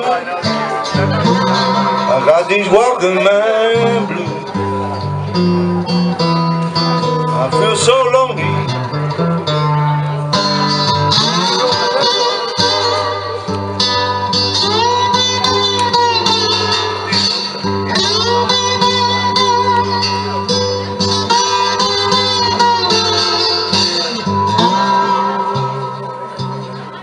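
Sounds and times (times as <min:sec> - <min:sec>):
blues guitars with bending notes: 0:00.0 - 0:27.0
low bass line: 0:00.5 - 0:27.0.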